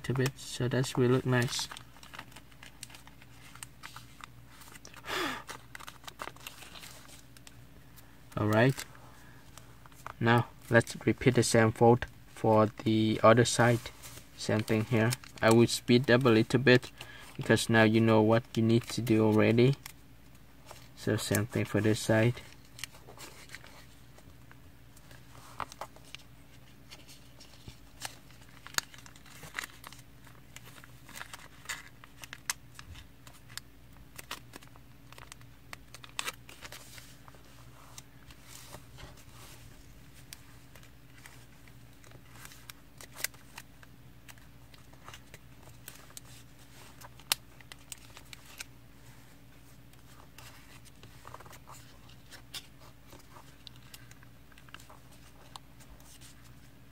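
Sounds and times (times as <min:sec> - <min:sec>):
paper crinkling and rustling: 0:00.0 - 0:08.9, 0:09.5 - 0:12.0, 0:12.6 - 0:20.0, 0:20.6 - 0:56.9.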